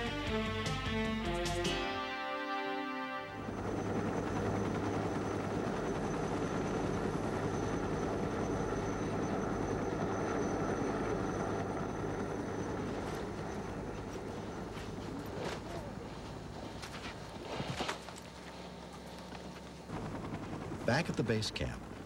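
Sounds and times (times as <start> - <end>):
helicopter hovering: 0.0 - 22.0
high turbine whine: 0.0 - 22.0.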